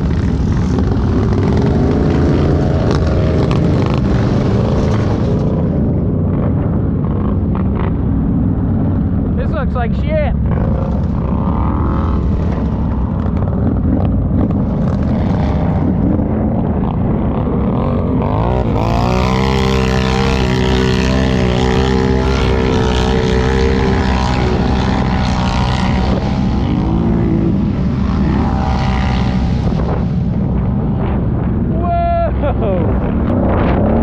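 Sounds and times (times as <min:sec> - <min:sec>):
quad bike engine revving: 0:00.0 - 0:09.5, 0:10.2 - 0:34.0.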